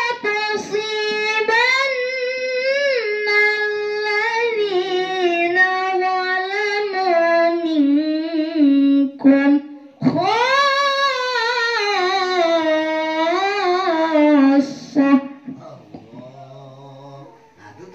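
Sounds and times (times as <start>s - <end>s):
girl reciting melodically: 0.0s - 16.4s.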